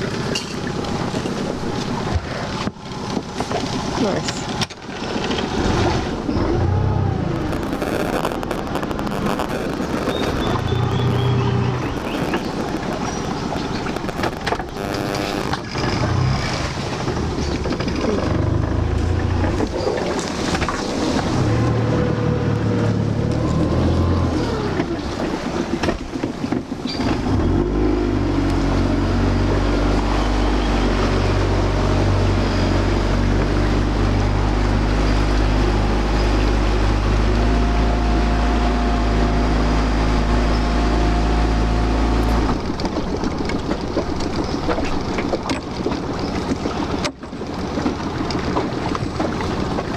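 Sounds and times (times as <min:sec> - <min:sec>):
outboard motor running: 0:00.0 - 0:49.9
water noise: 0:00.0 - 0:49.9
wind: 0:00.0 - 0:49.9.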